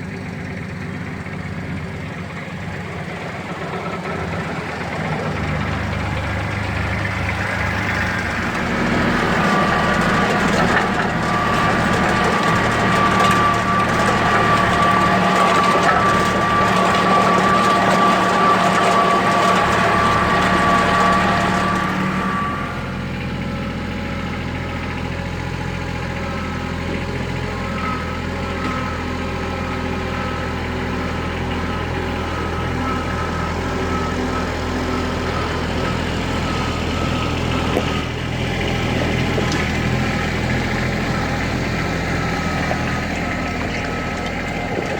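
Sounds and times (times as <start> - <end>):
diesel tractor engine running: 0.0 - 44.9.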